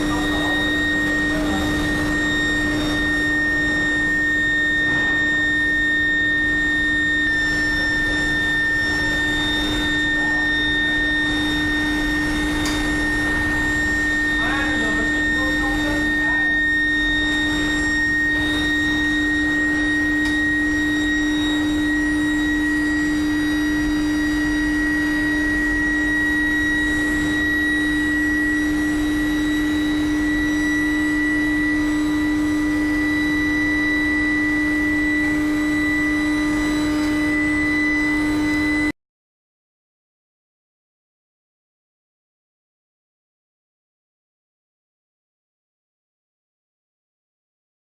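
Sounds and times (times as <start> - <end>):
furnace low hum: 0.0 - 39.0
high whine: 0.0 - 39.0.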